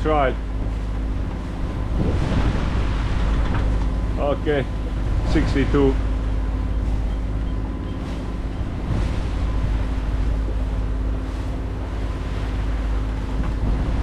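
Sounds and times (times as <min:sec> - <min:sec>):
marine diesel engine humming: 0:00.0 - 0:14.0
water rushing past hull: 0:00.0 - 0:14.0
wind on microphone: 0:00.4 - 0:14.0.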